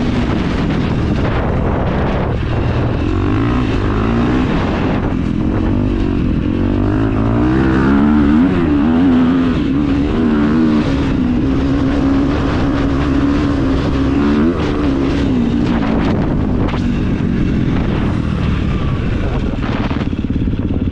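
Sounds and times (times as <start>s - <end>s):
motorcycle engine running loudly: 0.0s - 20.9s.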